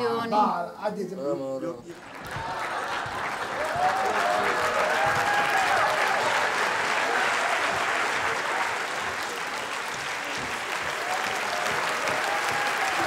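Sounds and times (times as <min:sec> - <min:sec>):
audience applauding: 0:01.9 - 0:13.0.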